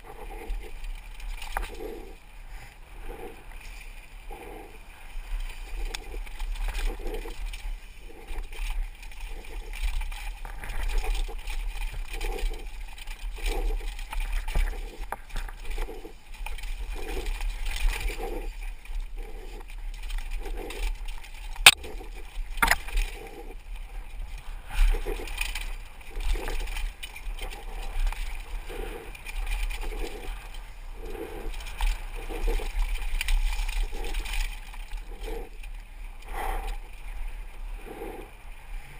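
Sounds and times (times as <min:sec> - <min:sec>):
mountain bike rattling: 0:00.0 - 0:38.9.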